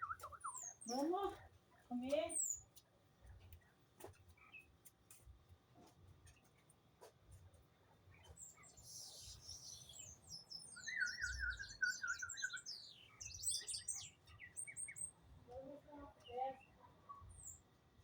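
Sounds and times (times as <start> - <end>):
small birds chirping and twittering: 0.0 - 18.0.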